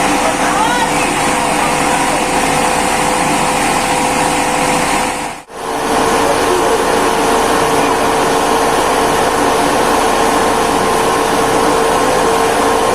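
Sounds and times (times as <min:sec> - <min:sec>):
mill machinery droning: 0:00.0 - 0:12.9.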